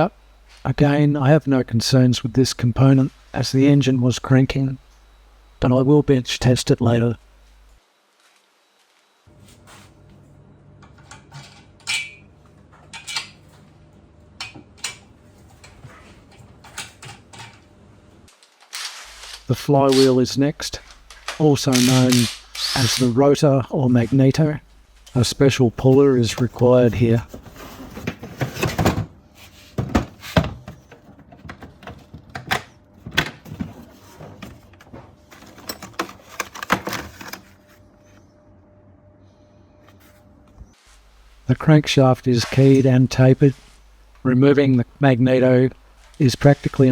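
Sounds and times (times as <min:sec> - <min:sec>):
low steady hum: 0:00.0 - 0:08.0, 0:08.6 - 0:46.9.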